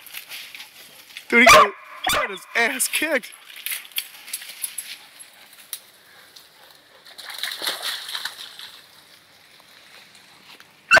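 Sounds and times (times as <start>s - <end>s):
leaves and brush rustling: 0.0s - 11.0s.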